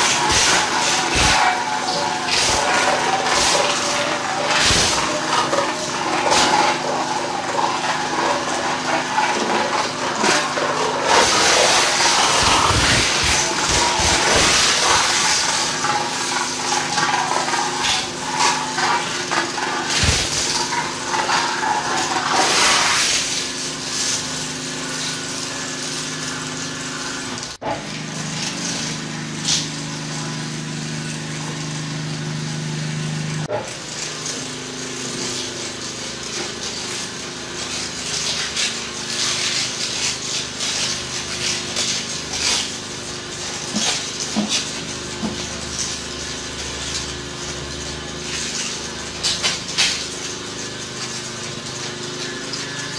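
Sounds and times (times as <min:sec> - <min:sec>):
machine drive hum: 0:00.0 - 0:52.9
shredder crunching cans and plastic: 0:00.0 - 0:52.9.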